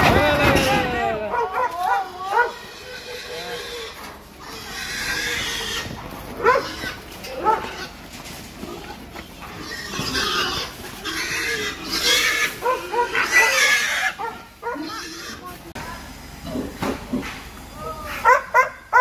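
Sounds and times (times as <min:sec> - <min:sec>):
pigs squealing: 0:00.0 - 0:15.7.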